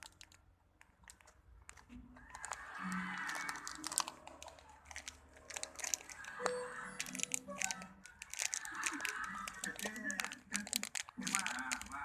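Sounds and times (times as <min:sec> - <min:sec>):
plastic crinkling and clicking: 0:00.0 - 0:12.0
faint tune: 0:02.2 - 0:12.0.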